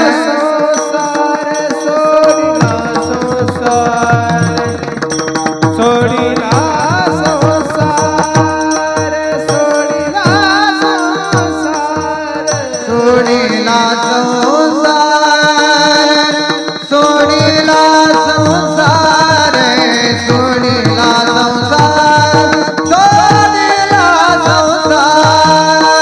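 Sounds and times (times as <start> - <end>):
man singing ornamented lines: 0.0 - 26.0
steady held accompaniment: 0.0 - 26.0
hand drum rapid strokes: 1.6 - 26.0.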